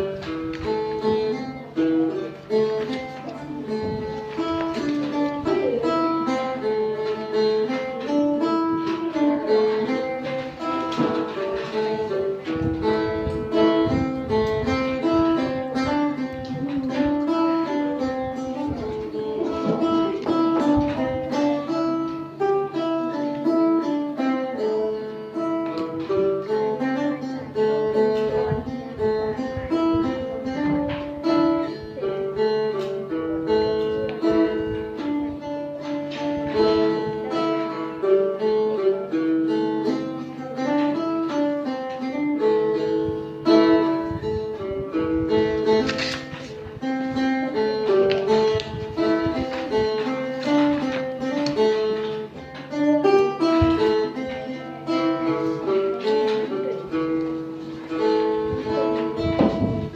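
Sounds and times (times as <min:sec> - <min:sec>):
plucked lute melody with drone: 0:00.0 - 0:59.9.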